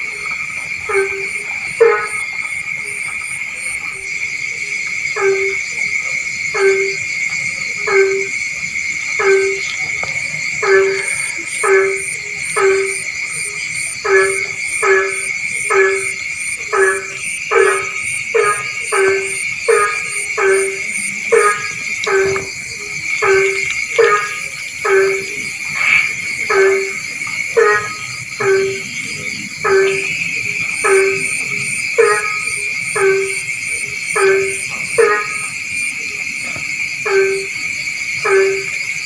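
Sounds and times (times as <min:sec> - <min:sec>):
frog calling: 0:00.0 - 0:39.0.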